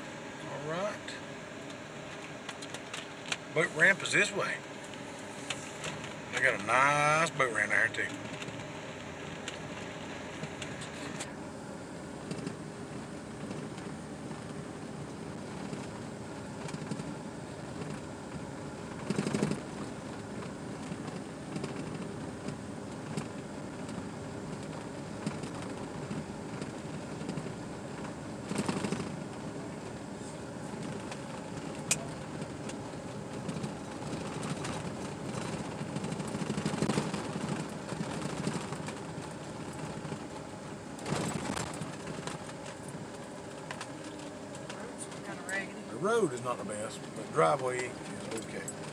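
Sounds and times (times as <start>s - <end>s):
vehicle engine and tyre rumble: 0.0s - 48.9s.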